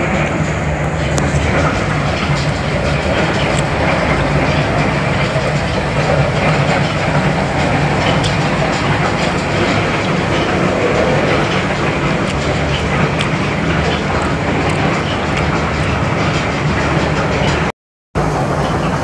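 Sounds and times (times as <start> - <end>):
low hum: 0.0 - 19.0
mill machinery running: 0.0 - 19.0.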